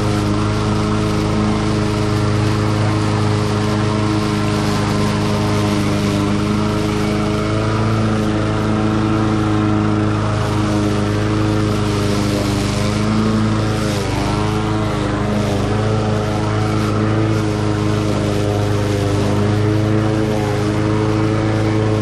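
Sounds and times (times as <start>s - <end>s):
lawn mower engine cutting grass: 0.0s - 22.0s.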